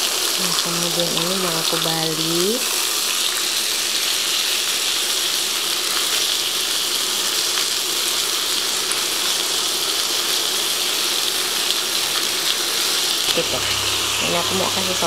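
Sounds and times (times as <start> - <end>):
steak sizzling in a frying pan: 0.0 - 15.0.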